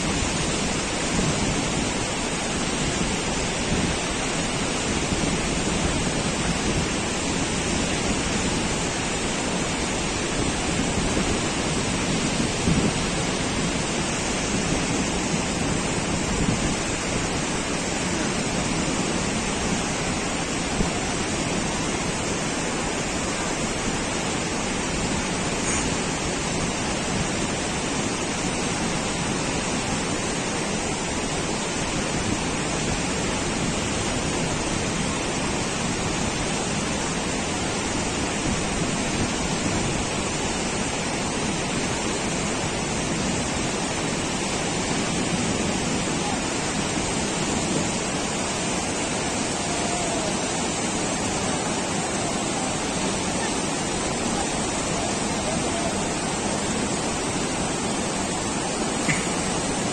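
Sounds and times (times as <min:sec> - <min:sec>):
river rapids rushing over rocks: 0:00.0 - 0:59.9.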